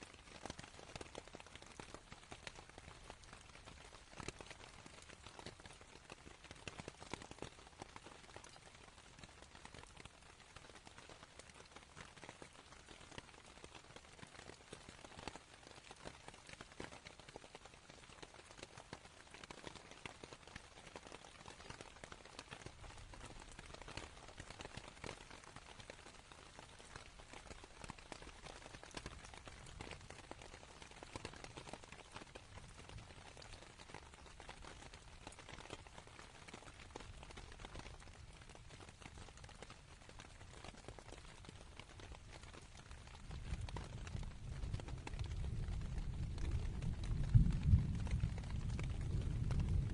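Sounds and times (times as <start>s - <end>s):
rain pattering on canvas: 0.0s - 49.9s.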